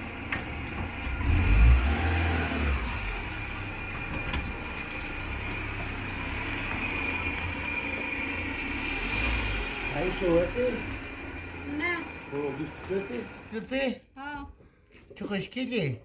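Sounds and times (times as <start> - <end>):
high engine whine: 0.0 - 13.7
car engine rumbling: 0.0 - 13.8.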